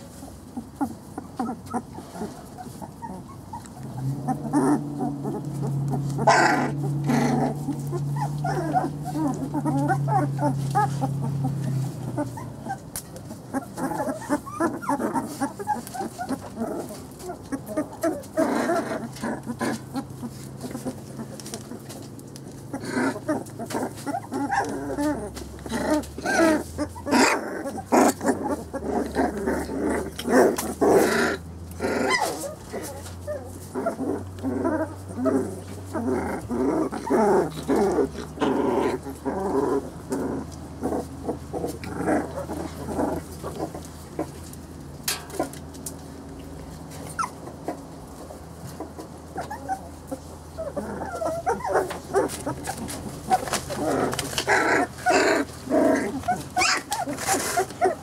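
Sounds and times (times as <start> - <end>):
puppies whining and squealing: 0.0 - 45.6, 46.5 - 58.0.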